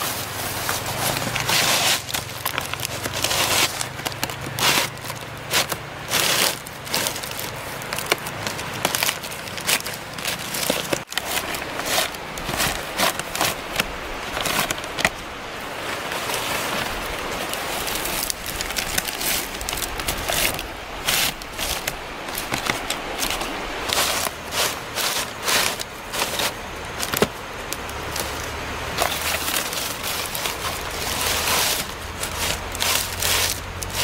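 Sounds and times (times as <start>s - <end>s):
stiff leaves rustling and crackling: 0.0s - 34.0s.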